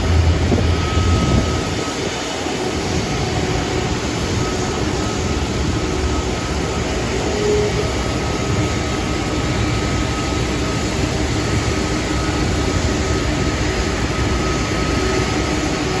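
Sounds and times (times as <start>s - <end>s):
faint engine whine: 0.0s - 16.0s
jet engines rushing: 0.0s - 16.0s.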